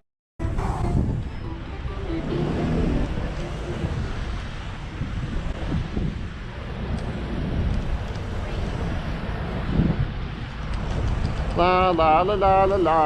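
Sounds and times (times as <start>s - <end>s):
steady traffic noise: 0.4s - 13.0s
wind rumbling on microphone: 0.4s - 13.0s.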